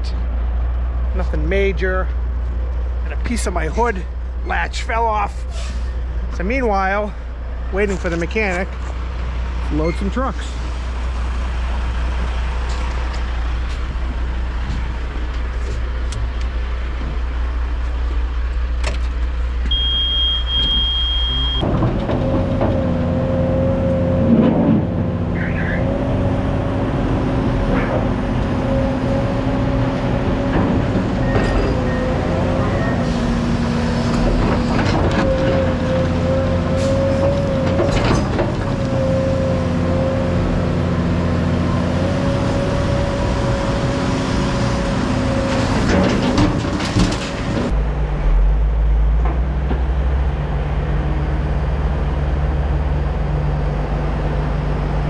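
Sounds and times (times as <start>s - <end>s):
heavy diesel engine running: 0.0s - 19.9s, 24.2s - 55.0s
deeper engine drone: 0.0s - 55.0s.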